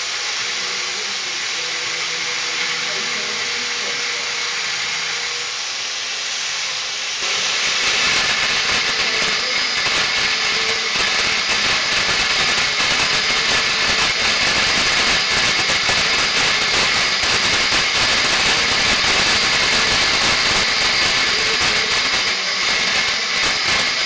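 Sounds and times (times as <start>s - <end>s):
power tool grinding metal: 0.0s - 24.0s.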